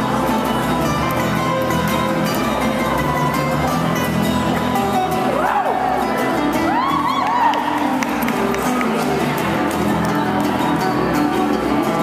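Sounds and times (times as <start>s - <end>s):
acoustic band music: 0.0s - 12.0s
guitar: 0.0s - 12.0s
upright bass: 0.0s - 12.0s.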